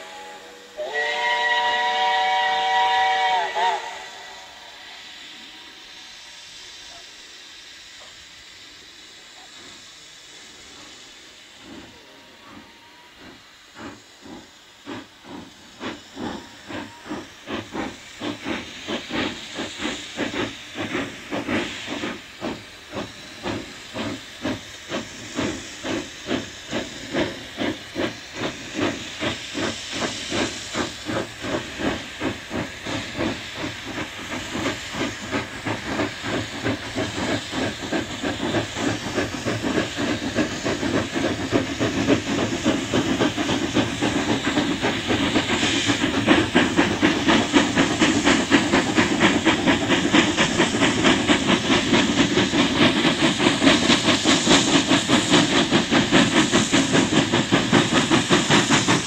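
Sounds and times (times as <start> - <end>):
steam locomotive exhaust chuffing: 0.0 - 59.0.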